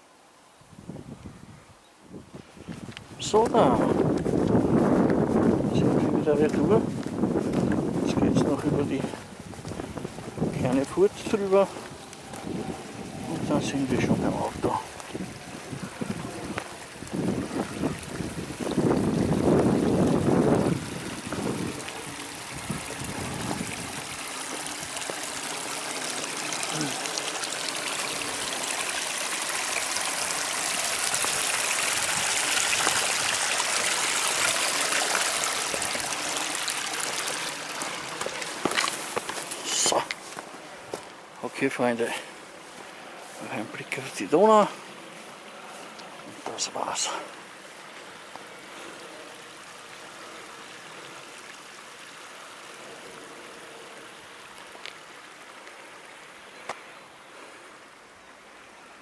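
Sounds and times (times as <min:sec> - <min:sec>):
stream water running and splashing: 0:02.1 - 0:59.0.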